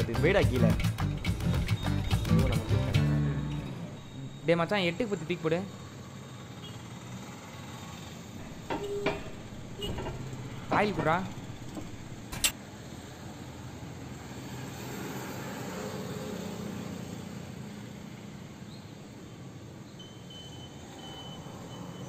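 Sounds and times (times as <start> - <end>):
low hum of vehicle: 0.0 - 22.0.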